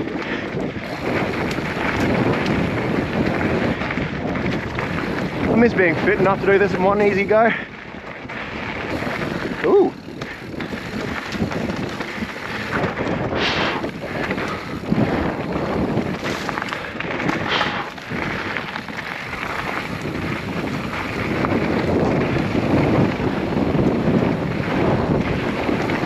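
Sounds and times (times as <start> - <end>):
bike tyres over rough ground: 0.0 - 26.0
wind buffeting microphone: 0.0 - 26.0.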